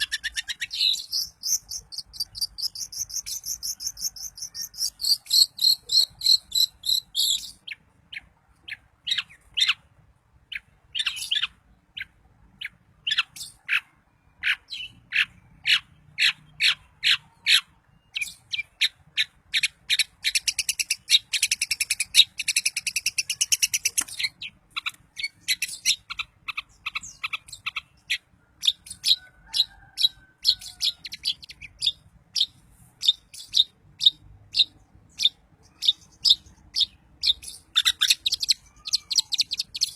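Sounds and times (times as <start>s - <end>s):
bird singing trills and chirps: 0.0s - 9.9s, 10.5s - 39.9s.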